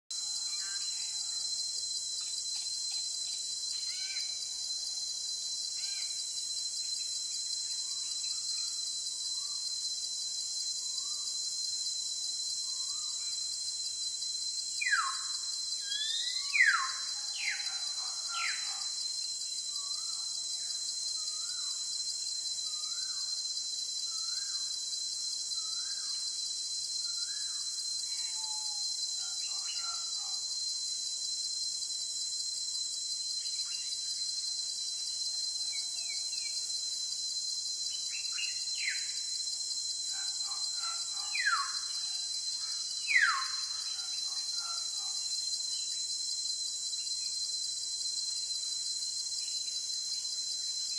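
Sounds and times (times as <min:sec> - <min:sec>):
high-pitched insect chorus: 0:00.1 - 0:50.9.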